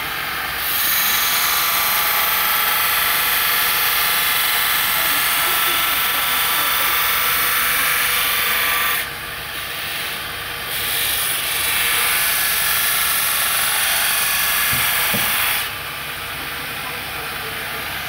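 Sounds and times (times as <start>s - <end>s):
belt grinder grinding steel: 0.0s - 15.8s.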